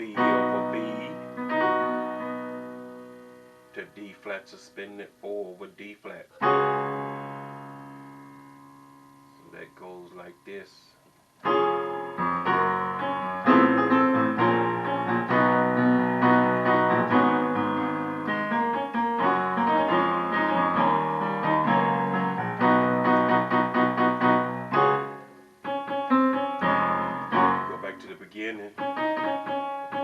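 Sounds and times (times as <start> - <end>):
piano playing gospel chords: 0.0 - 5.2, 6.4 - 10.4, 11.4 - 30.0.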